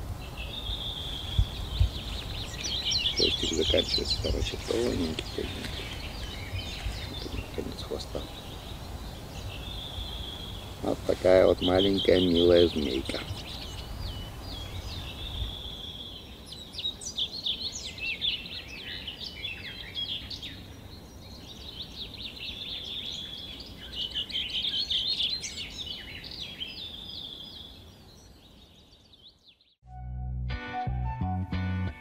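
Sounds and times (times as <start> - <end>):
small birds chirping and trilling: 0.0 - 29.8.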